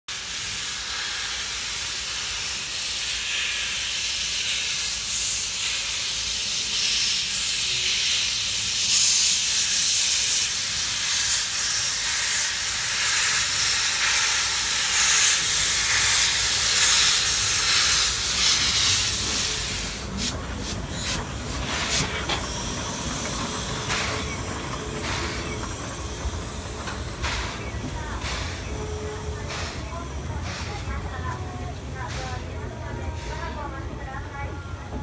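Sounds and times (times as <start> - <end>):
steam locomotive hissing steam: 0.1 - 35.0.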